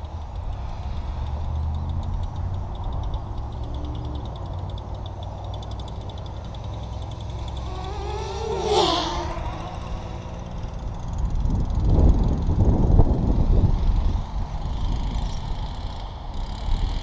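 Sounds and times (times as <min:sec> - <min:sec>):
wind rumble: 0:00.0 - 0:17.0
quadcopter motors whining: 0:00.3 - 0:17.0.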